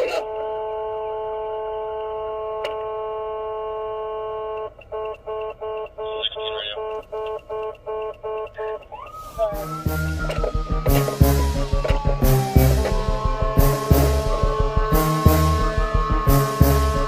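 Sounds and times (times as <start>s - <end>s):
police electronic horn blasts: 0.0s - 17.0s.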